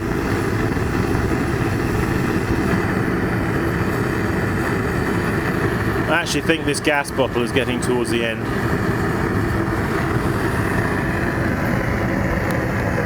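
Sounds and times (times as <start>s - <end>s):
gas torch roaring: 0.0s - 13.0s.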